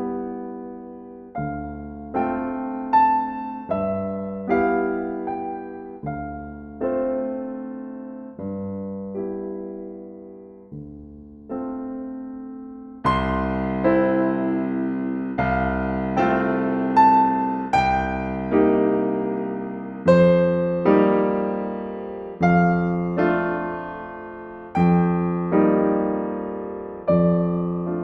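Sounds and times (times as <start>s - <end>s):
slow solo piano music: 0.0s - 28.0s.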